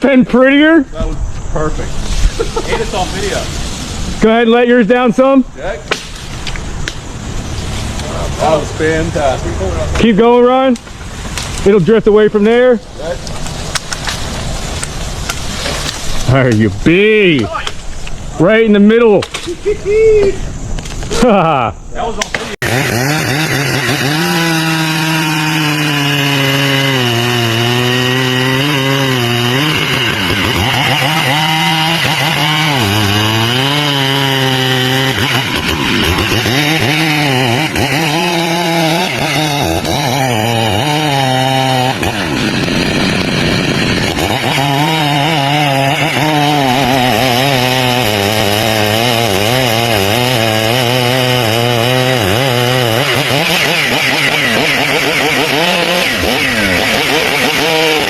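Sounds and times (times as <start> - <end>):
chainsaw cutting wood: 2.0 - 19.6, 22.2 - 58.0.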